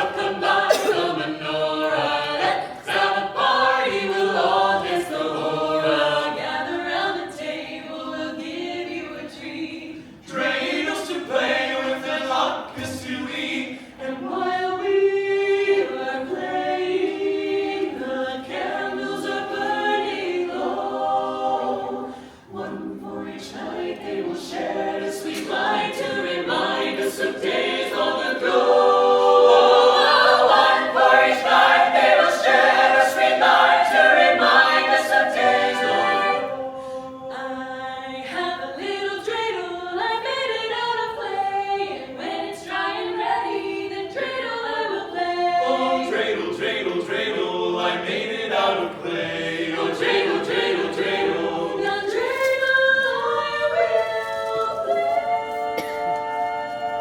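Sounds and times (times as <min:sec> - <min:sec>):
a cappella ensemble singing: 0:00.0 - 0:57.0.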